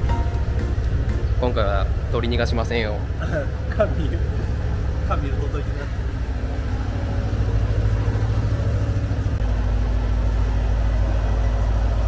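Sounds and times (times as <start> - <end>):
low machine rumble: 0.0 - 12.0.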